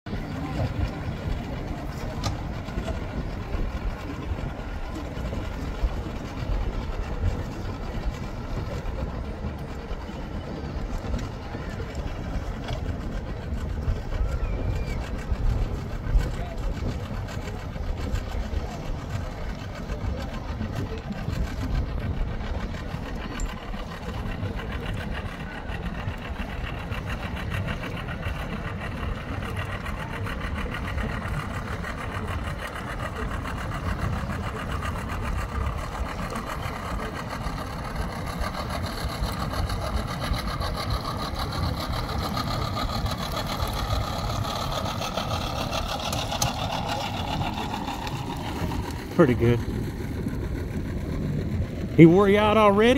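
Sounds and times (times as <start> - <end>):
outboard motor idling: 0.1 - 52.9.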